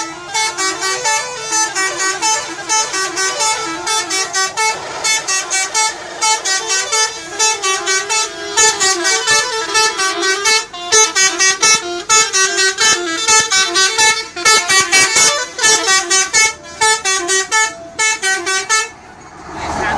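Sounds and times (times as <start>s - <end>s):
bus musical horn tune: 0.0s - 19.2s.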